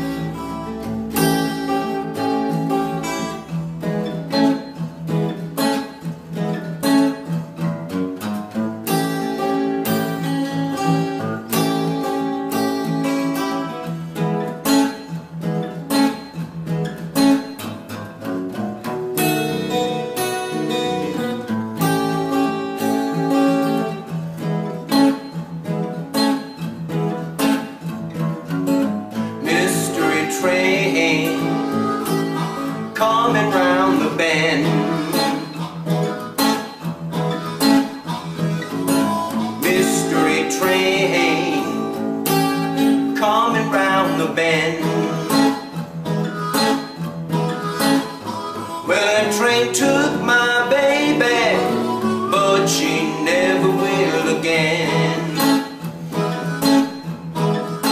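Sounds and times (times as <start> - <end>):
acoustic guitar strumming blues: 0.0 - 57.9.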